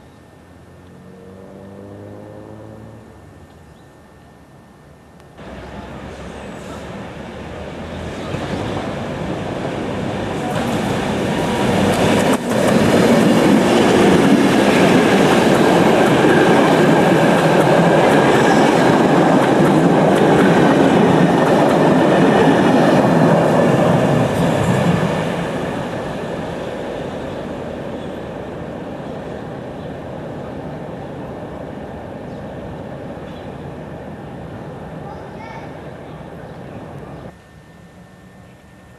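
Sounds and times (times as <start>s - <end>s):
train passing close by: 5.4s - 38.9s.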